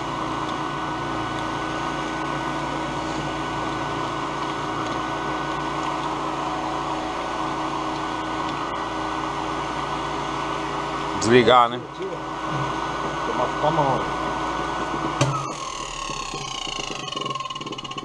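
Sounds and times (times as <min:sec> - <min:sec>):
cotton candy machine whirring: 0:00.0 - 0:18.0.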